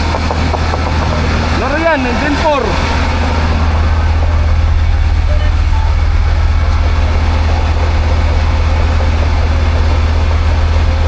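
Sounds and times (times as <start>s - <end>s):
large vehicle engine droning: 0.0s - 11.0s.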